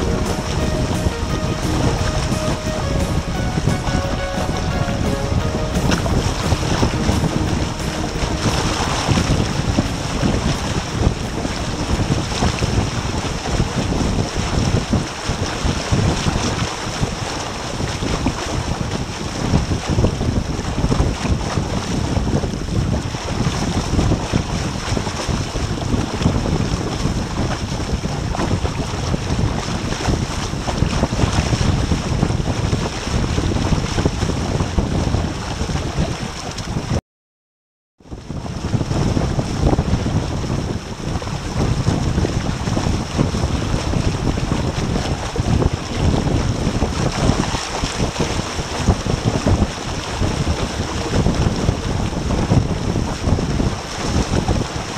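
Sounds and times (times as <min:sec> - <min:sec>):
water rushing along hull: 0:00.0 - 0:37.0, 0:38.0 - 0:54.9
wind buffeting microphone: 0:00.0 - 0:37.0, 0:38.0 - 0:54.9.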